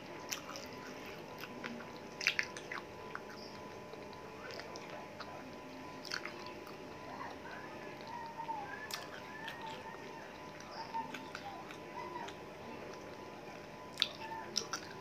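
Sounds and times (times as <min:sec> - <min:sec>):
chewing on a bone: 0:00.0 - 0:15.0
bone crunching and clicking: 0:00.2 - 0:15.0.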